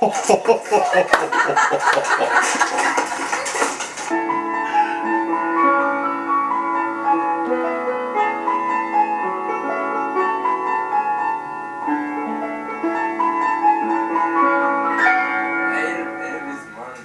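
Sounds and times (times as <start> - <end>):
instrumental melody: 0.0 - 17.0.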